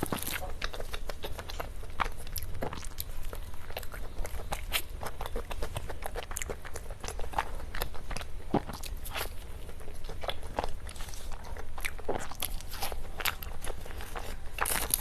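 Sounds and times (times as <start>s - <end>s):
person chewing cake: 0.0s - 15.0s.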